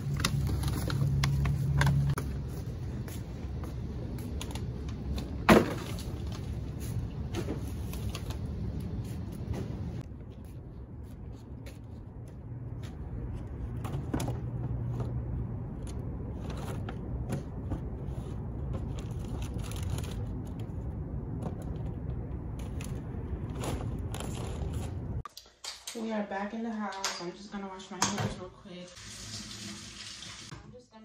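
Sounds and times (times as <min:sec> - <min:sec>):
low outdoor rumble: 0:00.0 - 0:25.2.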